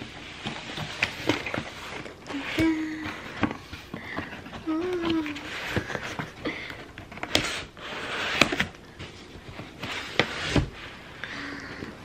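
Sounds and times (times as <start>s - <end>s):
cardboard scraping and sliding: 0.0s - 6.4s, 7.2s - 11.2s.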